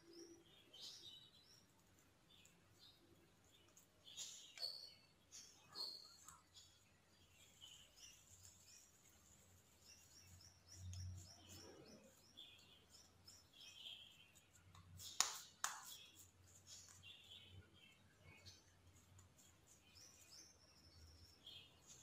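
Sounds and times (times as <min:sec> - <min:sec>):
faint high bird chirping: 0:00.0 - 0:22.0.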